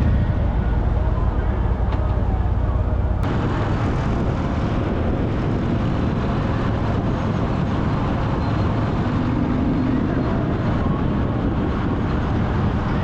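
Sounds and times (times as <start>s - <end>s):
road noise: 0.0s - 13.0s
wind on microphone: 0.0s - 13.0s.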